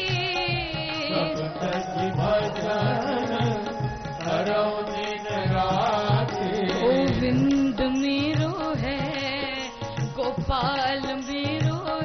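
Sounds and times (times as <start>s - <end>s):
harmonium: 0.0s - 12.0s
tabla rhythm: 0.0s - 12.0s.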